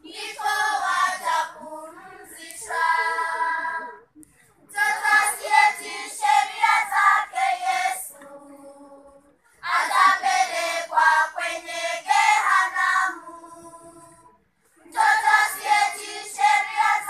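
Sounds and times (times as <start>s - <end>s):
children's choir singing: 0.0s - 4.1s, 4.7s - 17.0s.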